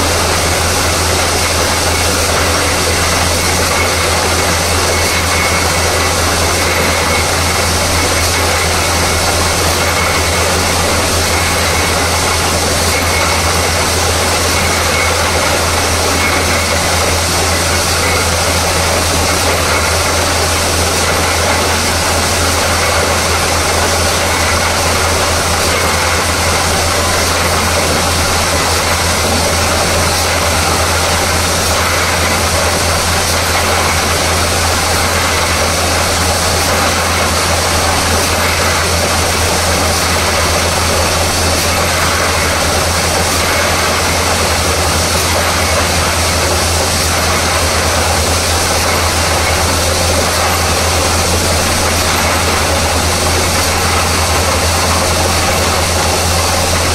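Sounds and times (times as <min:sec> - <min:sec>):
drilling rig droning: 0:00.0 - 0:56.9.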